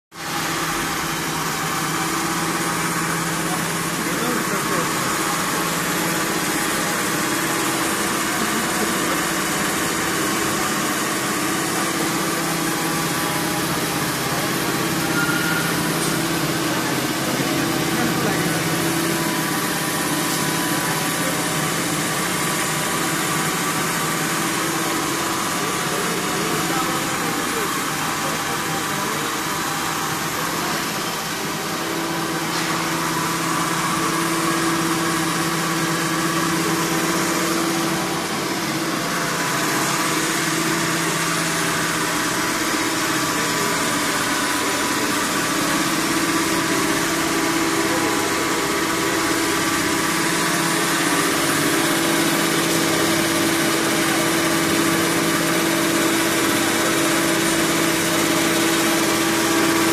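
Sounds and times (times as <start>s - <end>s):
machine hum with low drone: 0.2s - 59.9s.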